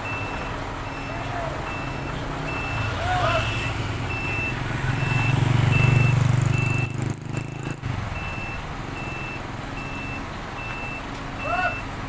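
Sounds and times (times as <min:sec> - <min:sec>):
reversing alarm beeps: 0:00.0 - 0:03.0, 0:04.1 - 0:11.9
truck engine running: 0:00.0 - 0:12.0.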